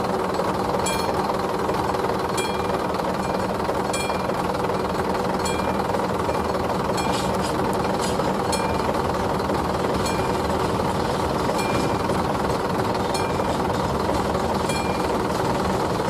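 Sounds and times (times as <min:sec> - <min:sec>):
level crossing warning bell ringing: 0:00.0 - 0:01.5, 0:02.1 - 0:16.0
freight wagons rolling: 0:00.0 - 0:16.0
sharp clicks from wagons: 0:00.1 - 0:16.0.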